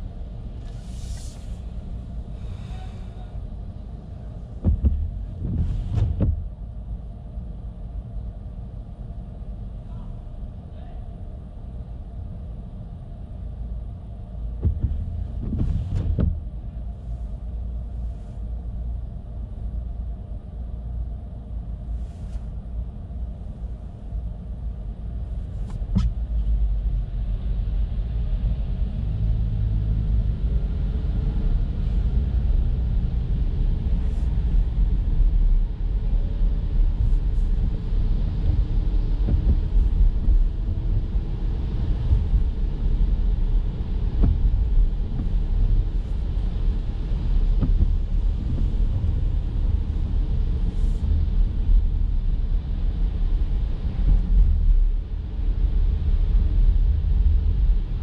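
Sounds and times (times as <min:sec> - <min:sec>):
car tyres rumbling on wet road: 0:00.0 - 0:08.2, 0:13.6 - 0:20.1, 0:20.8 - 0:58.0.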